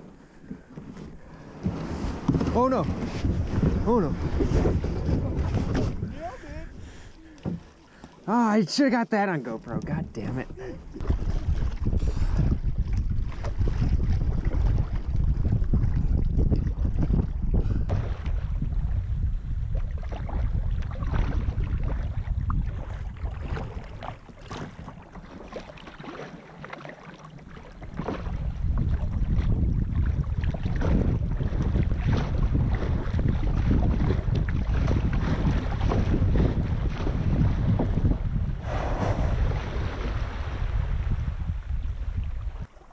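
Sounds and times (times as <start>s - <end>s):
wind buffeting microphone: 0.0s - 25.7s, 27.8s - 42.8s
water splashing against hull: 0.0s - 42.9s.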